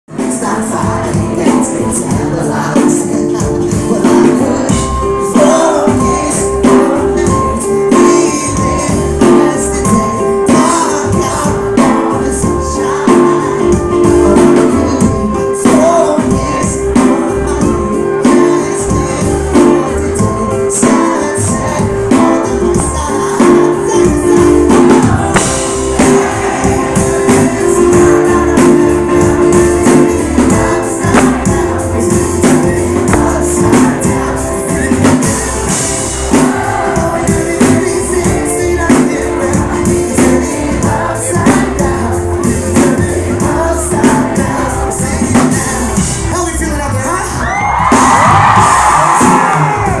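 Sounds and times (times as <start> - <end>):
electric guitar: 0.1 - 46.3
drum kit: 0.1 - 50.0
person singing: 0.1 - 50.0
rock band playing: 0.1 - 50.0.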